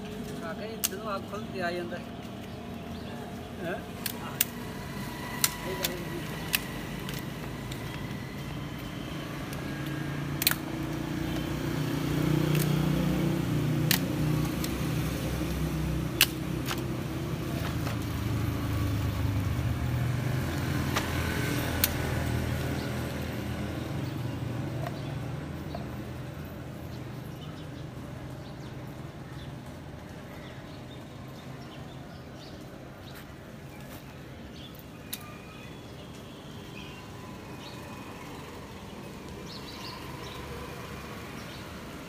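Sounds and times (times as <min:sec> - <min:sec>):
street ambience: 0:00.0 - 0:42.0.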